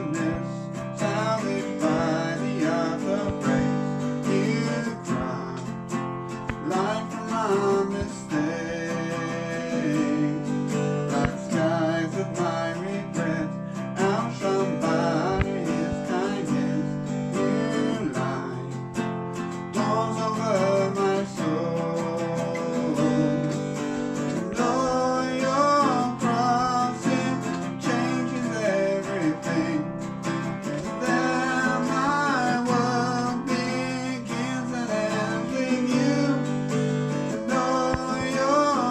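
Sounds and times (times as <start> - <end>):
strummed acoustic guitar music: 0.0 - 38.9.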